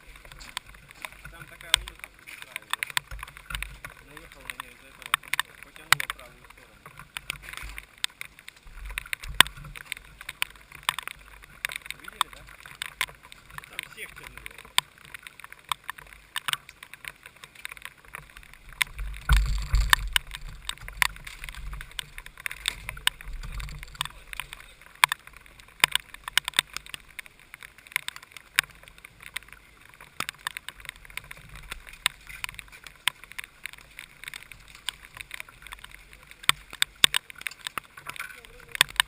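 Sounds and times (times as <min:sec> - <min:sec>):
raindrops tapping on camera: 0:00.0 - 0:39.0.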